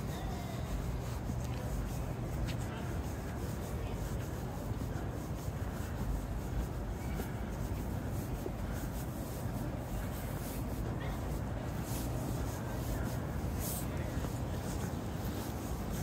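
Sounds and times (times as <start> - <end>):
faint scuffing: 0.0 - 16.0
low city street rumble: 0.0 - 16.0.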